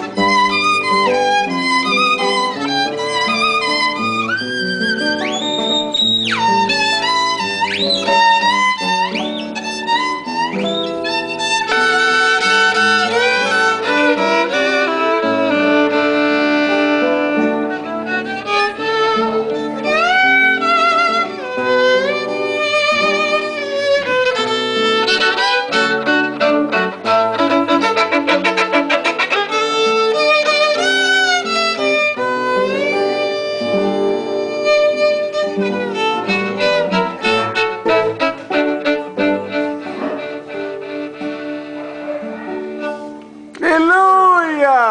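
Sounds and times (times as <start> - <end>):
violin playing: 0.0 - 44.2.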